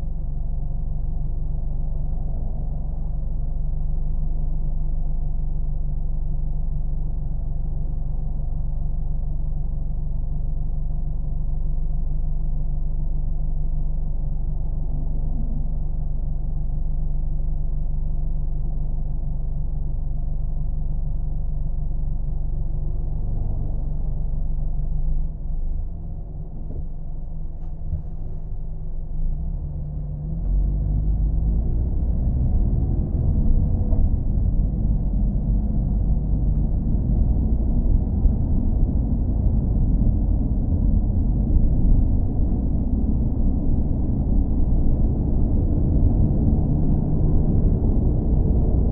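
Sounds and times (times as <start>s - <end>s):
car engine rumbling: 0.0s - 48.9s.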